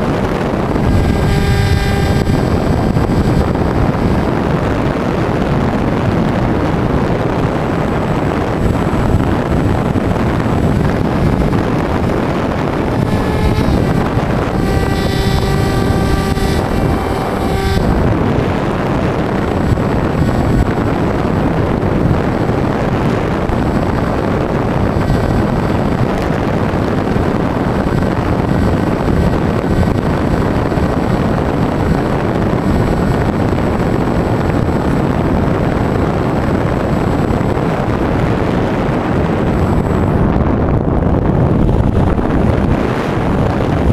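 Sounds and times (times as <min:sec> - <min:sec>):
air rushing over camera: 0:00.0 - 0:43.9
electric motor and propeller whine: 0:00.0 - 0:43.9.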